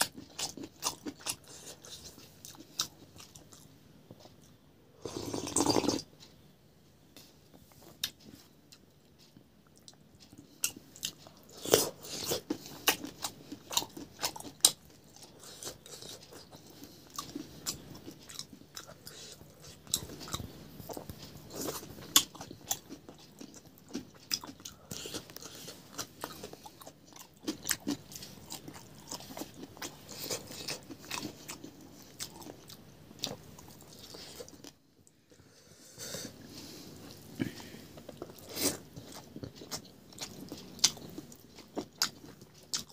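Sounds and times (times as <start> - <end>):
person chewing and crunching food: 0.0 - 6.2, 7.6 - 35.5, 36.3 - 42.9.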